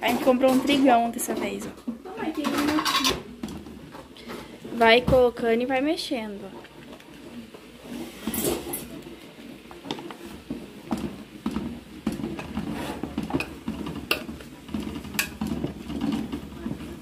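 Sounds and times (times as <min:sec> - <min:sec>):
wooden spoon scraping a pot: 0:00.0 - 0:17.0.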